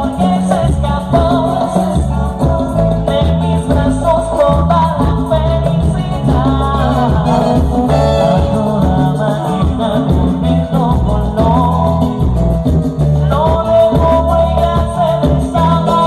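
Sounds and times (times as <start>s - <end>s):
latin band with singing: 0.0s - 16.0s
shaker percussion: 0.0s - 16.0s.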